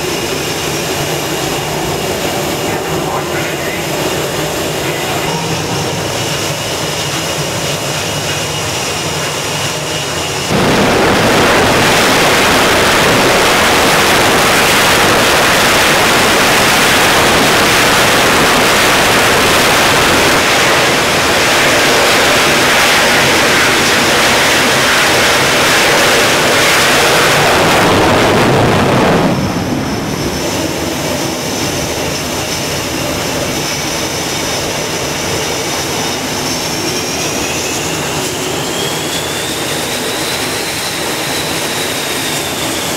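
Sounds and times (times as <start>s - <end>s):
jet engines at full power: 0.0s - 42.9s
jet engines whining at idle: 0.0s - 42.9s.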